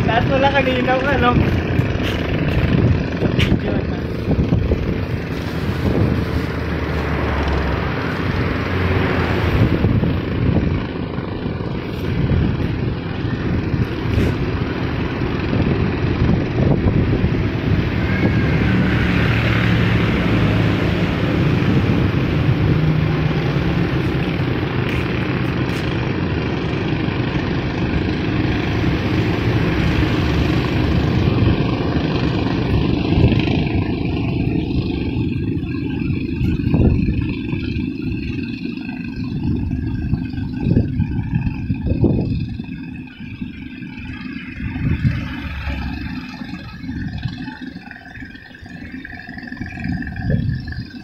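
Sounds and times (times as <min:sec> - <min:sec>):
wind buffeting the microphone: 0:00.0 - 0:51.0.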